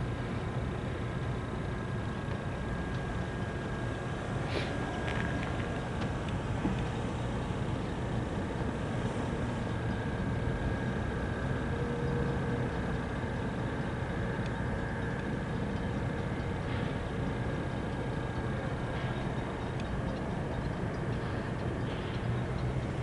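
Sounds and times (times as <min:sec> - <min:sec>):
locomotive engine droning: 0:00.0 - 0:23.0.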